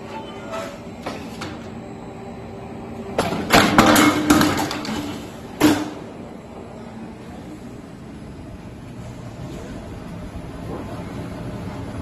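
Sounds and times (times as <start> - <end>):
roll forming machine hum: 0.0 - 12.0.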